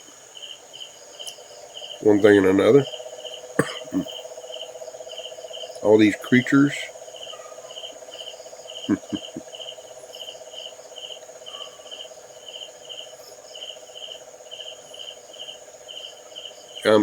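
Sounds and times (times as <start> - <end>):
crickets chirping: 0.0 - 17.0
high-pitched insect trill: 0.0 - 17.0
low buzzing insect trill: 0.0 - 17.0.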